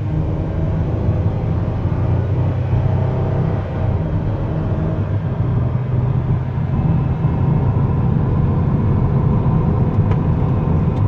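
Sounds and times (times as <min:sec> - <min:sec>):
road rumble inside car: 0:00.0 - 0:11.0.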